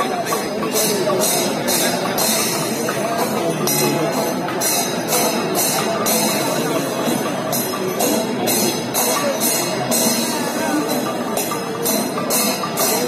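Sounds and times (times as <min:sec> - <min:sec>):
cymbals clashing: 0:00.0 - 0:13.0
drums playing: 0:00.0 - 0:13.0.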